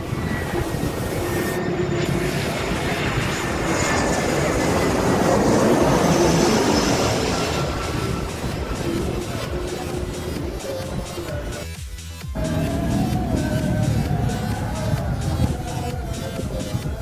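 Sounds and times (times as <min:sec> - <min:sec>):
faint high whine: 0:00.0 - 0:11.6, 0:12.4 - 0:17.0
jet airliner passing: 0:00.0 - 0:17.0.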